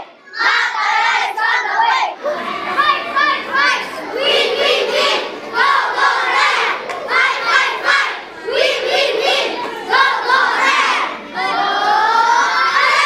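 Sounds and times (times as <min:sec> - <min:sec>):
boys chanting in unison: 0:00.0 - 0:13.0.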